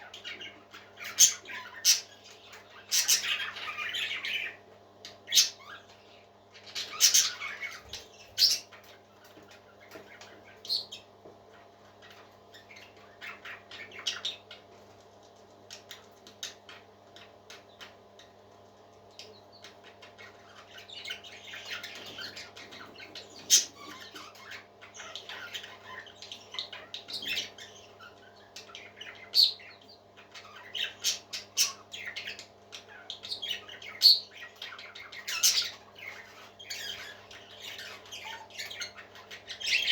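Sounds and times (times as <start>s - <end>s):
parrots squawking and chirping: 0.0s - 14.7s, 19.6s - 39.9s.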